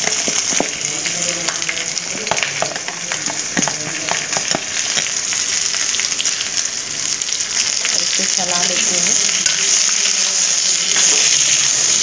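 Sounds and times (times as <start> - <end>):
oil crackling: 0.0 - 12.0
onions sizzling in hot oil: 0.0 - 12.0.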